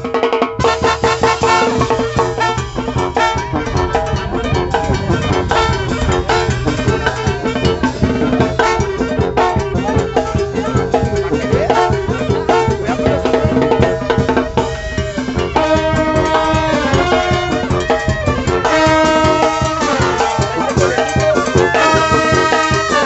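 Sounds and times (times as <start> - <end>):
brass band melody: 0.0 - 23.0
drum beat: 0.0 - 23.0.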